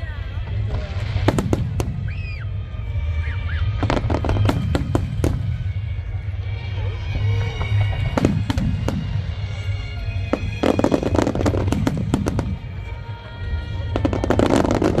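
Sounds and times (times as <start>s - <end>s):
firework crackling: 0.0s - 15.0s
music playing: 0.0s - 15.0s
firework bangs: 0.4s - 6.2s, 7.2s - 13.2s, 13.8s - 15.0s.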